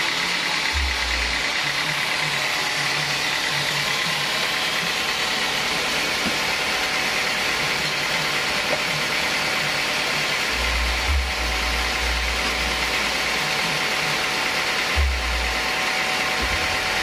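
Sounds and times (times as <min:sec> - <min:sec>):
band sawmill whirring: 0:00.0 - 0:17.0.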